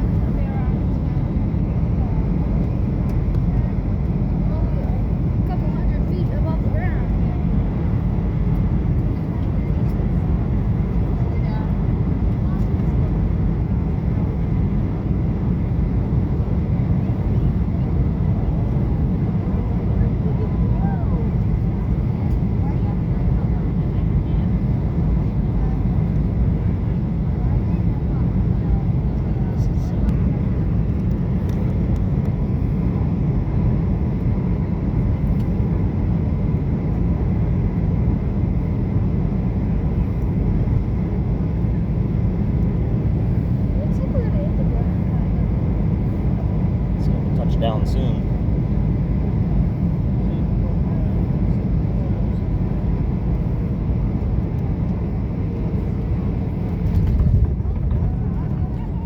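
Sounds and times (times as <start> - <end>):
jet engine and airflow noise: 0.0 - 59.0.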